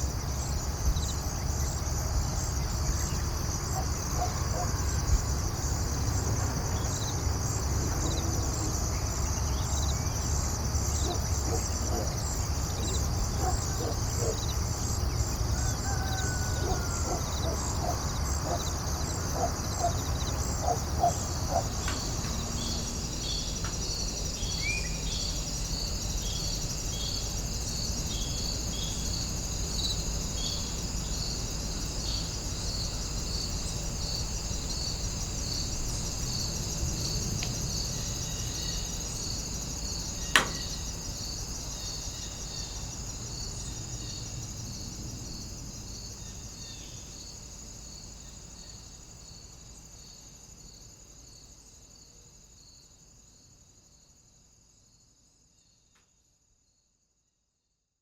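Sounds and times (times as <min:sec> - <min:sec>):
insects chirping: 0:00.0 - 0:56.8.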